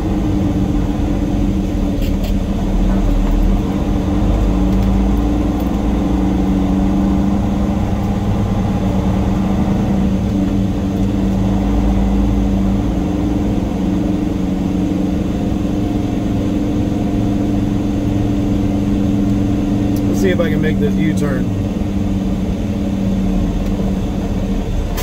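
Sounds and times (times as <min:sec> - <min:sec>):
diesel truck engine at low revs: 0:00.0 - 0:25.0.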